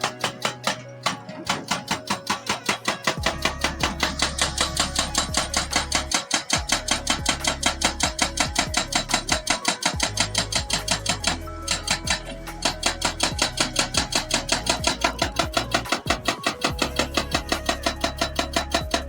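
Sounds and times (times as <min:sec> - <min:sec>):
fast beat background music: 0:00.0 - 0:19.0.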